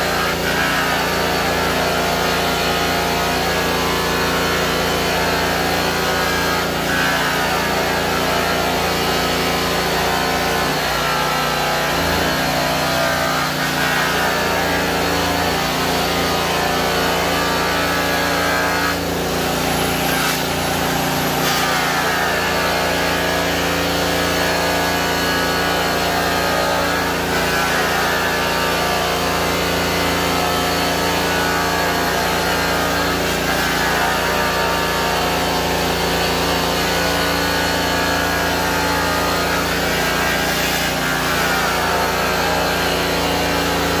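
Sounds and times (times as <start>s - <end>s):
rotary polisher whine on metal: 0.0s - 44.0s.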